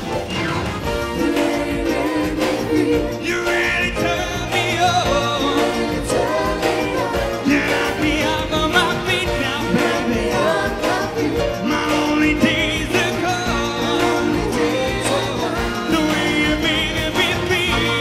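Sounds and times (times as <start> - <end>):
pop song with vocal group: 0.8 - 18.0.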